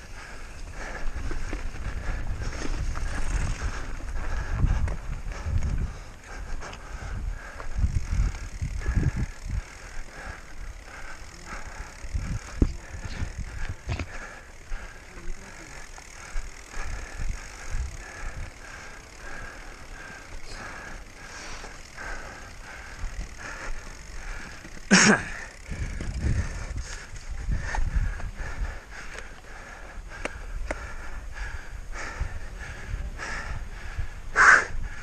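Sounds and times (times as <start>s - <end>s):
bike frame and chain rattling: 0.0s - 34.0s
bike freehub ratchet clicking: 0.1s - 35.0s.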